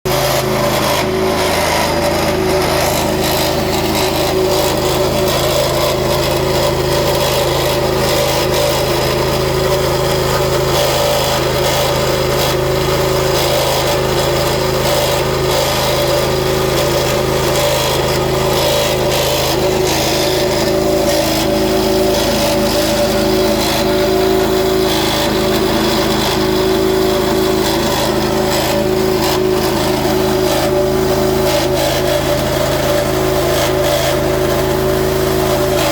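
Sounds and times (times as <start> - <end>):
pressure washer engine running: 0.0 - 35.9.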